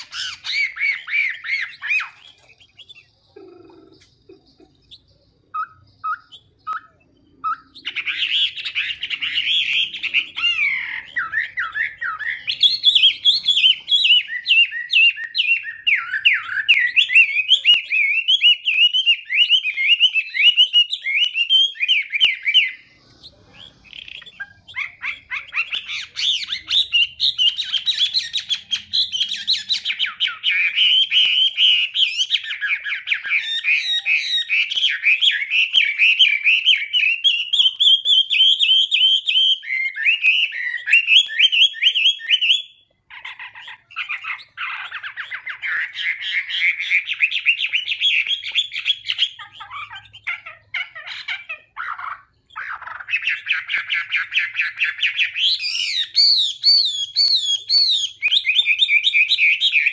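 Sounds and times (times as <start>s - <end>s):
bird singing trills: 0.0s - 59.9s.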